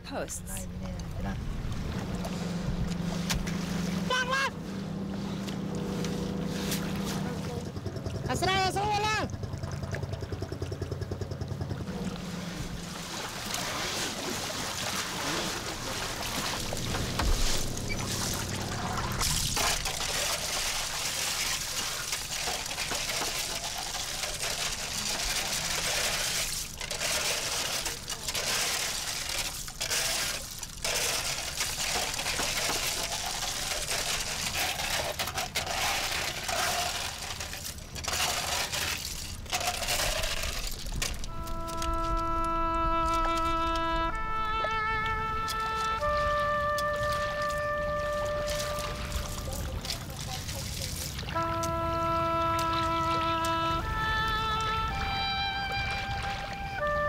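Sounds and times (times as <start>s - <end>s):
low hum: 0.0s - 28.0s, 31.8s - 50.4s
water sloshing: 0.0s - 57.0s.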